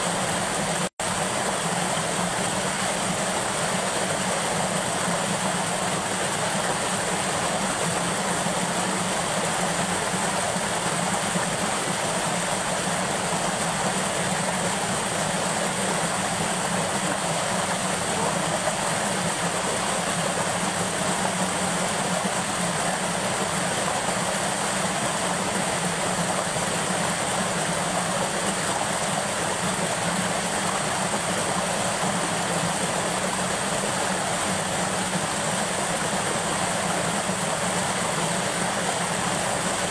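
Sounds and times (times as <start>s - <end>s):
river water rushing over ledge: 0.0s - 39.9s.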